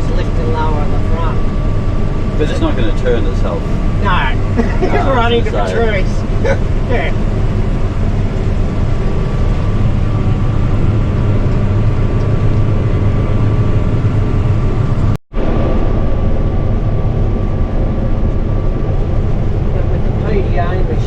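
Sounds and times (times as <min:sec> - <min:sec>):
combine harvester drone: 0:00.0 - 0:21.0
steady hum: 0:00.0 - 0:21.0.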